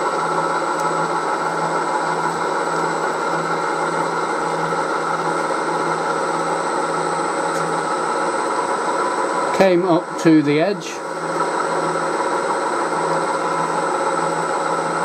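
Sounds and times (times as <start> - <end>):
milling machine motor hum: 0.0 - 15.0.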